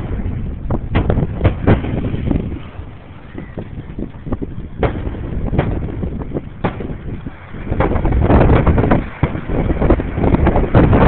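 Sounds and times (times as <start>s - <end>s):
fireworks exploding: 0.0s - 2.9s, 4.7s - 10.9s
low rumble: 0.0s - 11.0s
wind buffeting microphone: 0.0s - 11.0s.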